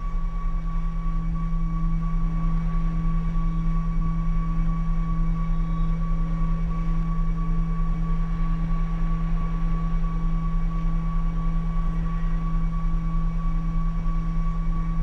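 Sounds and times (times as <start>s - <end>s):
low electronic hum: 0.0s - 15.0s
pulsing soft tone: 0.0s - 15.0s
steady high tone: 0.0s - 15.0s.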